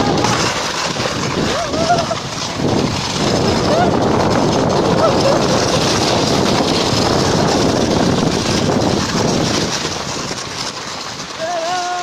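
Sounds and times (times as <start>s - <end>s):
sled sliding over snow: 0.0s - 12.0s
wind buffeting microphone: 0.0s - 12.0s.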